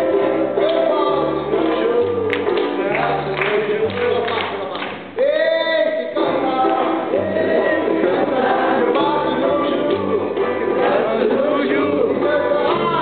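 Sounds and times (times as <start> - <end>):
instrumental backing with bass line: 0.0 - 13.0
man singing: 0.0 - 13.0.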